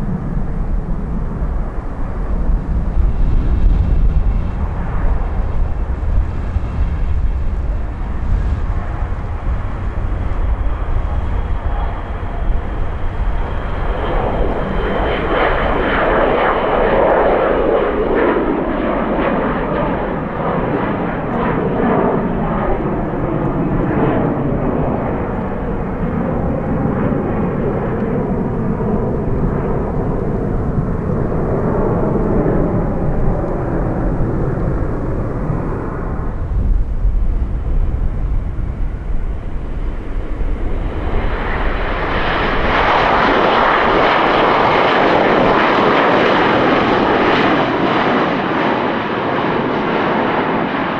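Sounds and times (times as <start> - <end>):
jet engines passing: 0.0 - 50.9.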